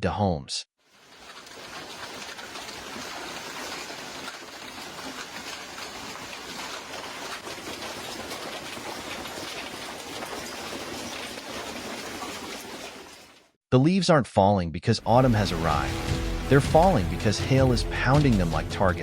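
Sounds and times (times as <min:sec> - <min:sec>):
floodwater rushing: 0:00.9 - 0:13.4, 0:15.1 - 0:19.0.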